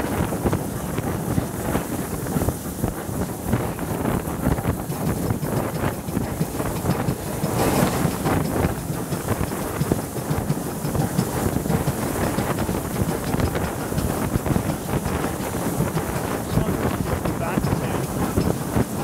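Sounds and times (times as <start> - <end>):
steam train running: 0.0 - 19.0
wind noise on microphone: 0.0 - 19.0.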